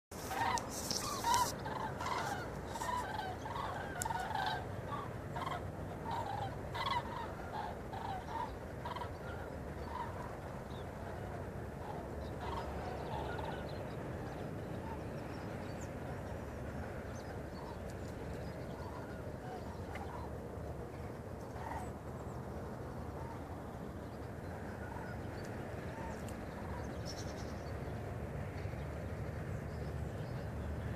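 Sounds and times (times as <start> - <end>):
cranes calling: 0.1 - 27.7
steady low rumble: 0.2 - 30.9.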